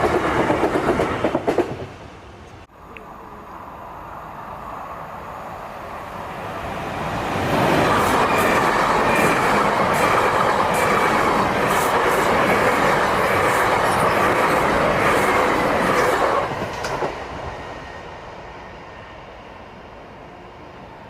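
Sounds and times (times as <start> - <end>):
train passing rush: 0.0 - 21.0.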